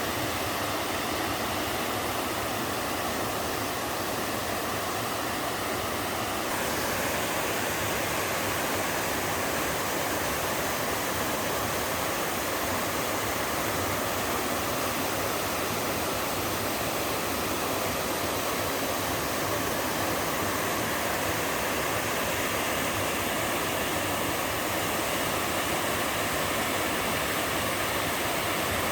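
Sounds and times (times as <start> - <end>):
water rushing over rock: 0.0 - 28.9.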